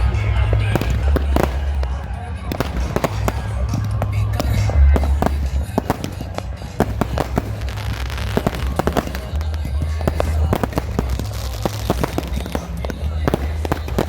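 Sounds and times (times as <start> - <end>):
firecrackers banging and popping: 0.0 - 14.0
music with heavy bass beat: 0.0 - 14.0.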